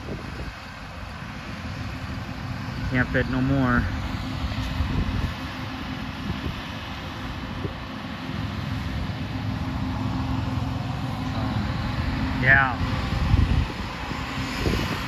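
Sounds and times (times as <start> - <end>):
engine running with low rumble: 0.0 - 15.0.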